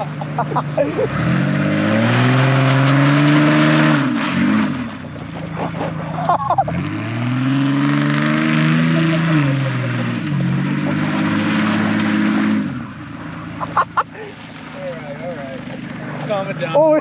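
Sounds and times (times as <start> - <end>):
engine revving through exhaust: 0.0 - 14.8.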